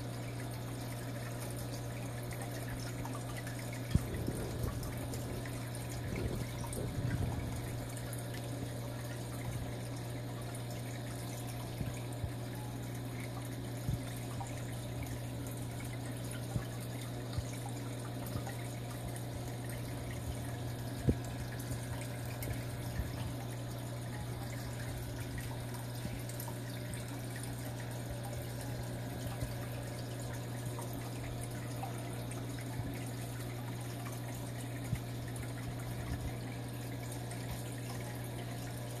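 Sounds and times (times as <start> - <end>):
low equipment hum: 0.0 - 39.0
trickling water: 0.0 - 39.0.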